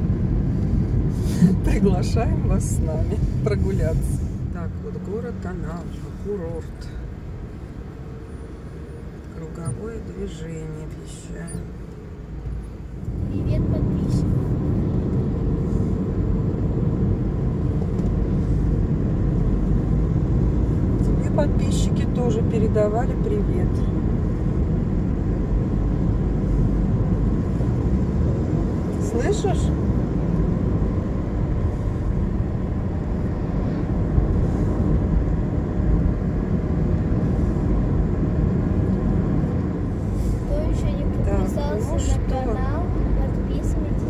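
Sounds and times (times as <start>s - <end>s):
car driving on highway: 0.0s - 44.0s.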